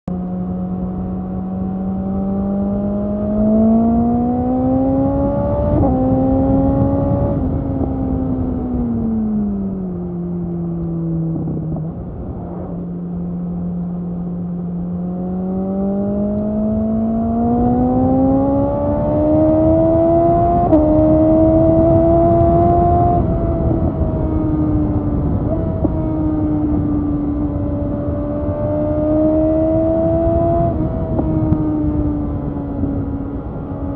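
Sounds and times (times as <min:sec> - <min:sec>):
motorcycle engine revving: 0:00.1 - 0:33.9
wind rumble: 0:00.1 - 0:33.9.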